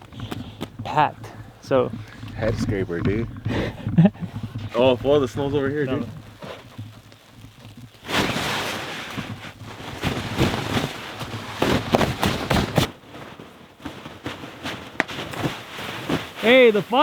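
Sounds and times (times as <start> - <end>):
snow sliding off fabric: 0.1 - 17.0
snow thudding on landing: 0.4 - 17.0.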